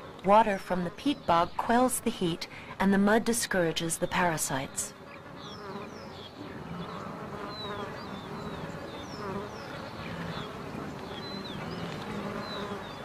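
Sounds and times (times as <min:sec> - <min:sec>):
flies buzzing: 0:00.0 - 0:13.0.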